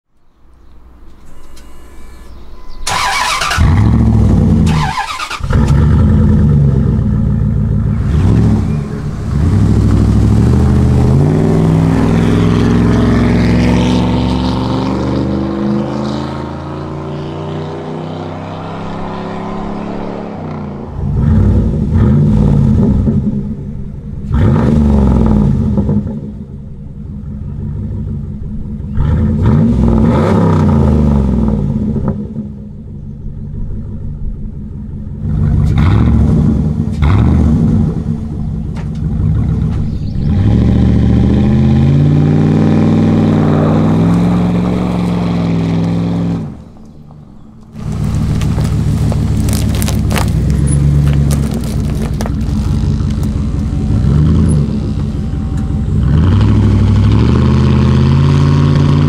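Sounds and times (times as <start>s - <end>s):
vehicle accelerating away: 1.8s - 32.7s, 33.6s - 59.0s
loud engine revving: 2.2s - 23.6s, 24.2s - 26.5s, 28.9s - 32.5s, 35.2s - 46.9s, 47.7s - 59.0s.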